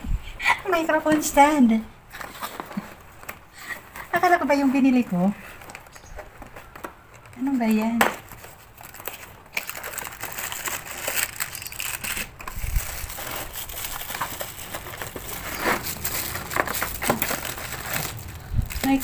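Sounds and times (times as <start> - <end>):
packaging crinkling and rustling: 2.1 - 19.0.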